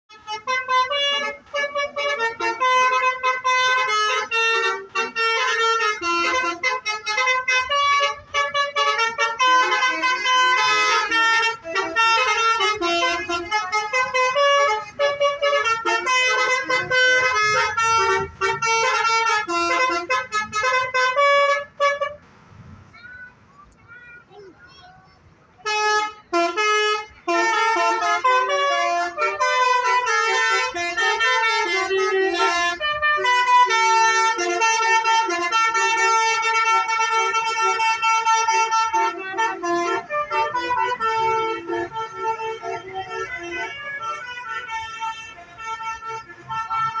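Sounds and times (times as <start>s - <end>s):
musical bus horn playing tune: 0.1s - 22.2s, 25.6s - 47.0s.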